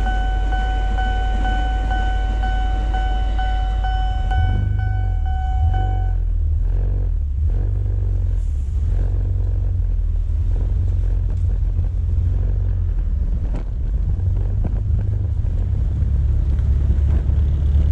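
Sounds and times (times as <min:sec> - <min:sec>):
motorcycle engine rumble: 0:00.0 - 0:17.9
road noise: 0:00.0 - 0:17.9.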